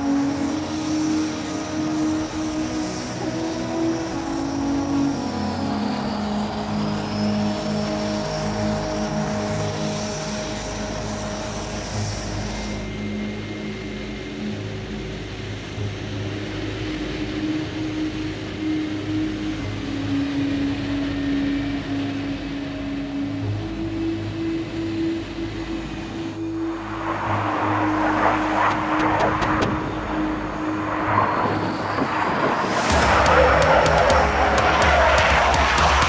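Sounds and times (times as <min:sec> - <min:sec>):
aircraft engine drone: 0:00.0 - 0:36.0
held low music notes: 0:00.0 - 0:36.0
high whine: 0:00.0 - 0:36.0.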